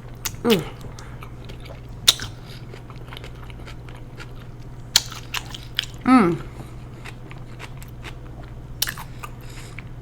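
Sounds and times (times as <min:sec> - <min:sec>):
person chewing noodles: 0:00.0 - 0:10.0.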